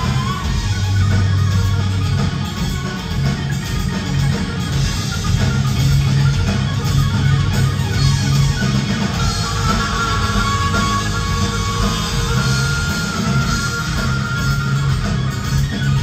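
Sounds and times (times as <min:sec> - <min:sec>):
high lead guitar line: 0:00.0 - 0:16.0
live rock band playing: 0:00.0 - 0:16.0.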